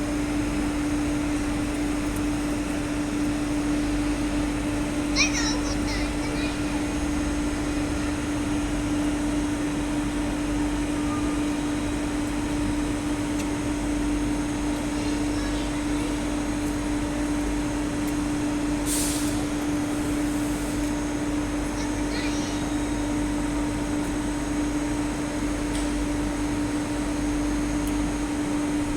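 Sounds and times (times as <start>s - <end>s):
steady electric hum: 0.0s - 28.9s.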